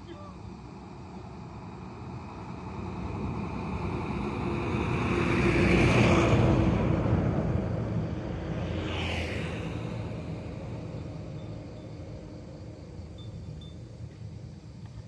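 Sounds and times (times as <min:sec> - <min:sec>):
truck driving past: 0:00.6 - 0:14.8.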